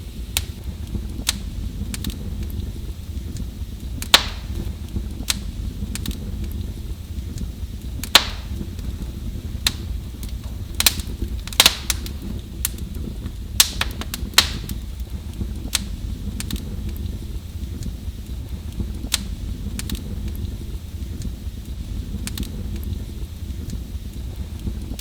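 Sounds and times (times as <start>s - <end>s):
low fire rumble: 0.0s - 25.0s
wood fire popping: 0.0s - 25.0s.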